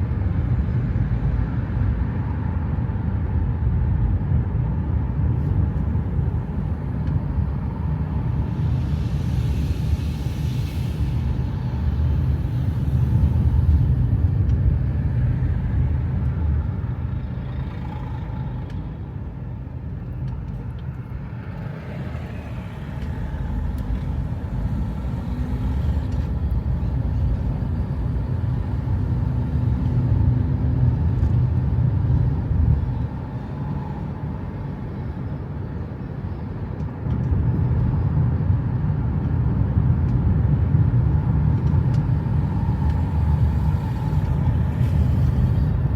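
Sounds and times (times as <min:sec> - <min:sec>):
car engine and road rumble: 0:00.0 - 0:45.9.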